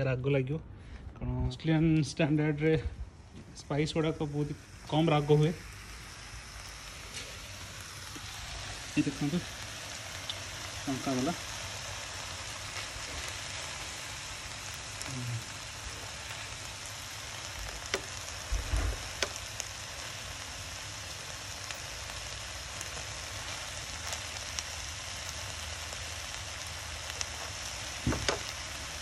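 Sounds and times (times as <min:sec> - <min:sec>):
meat frying on grill plate: 0:04.1 - 0:29.0.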